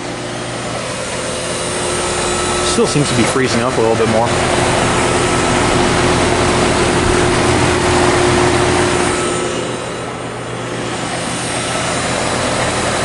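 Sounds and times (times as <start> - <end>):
low steady hum: 0.0 - 12.6
fan blowing air: 0.0 - 13.0.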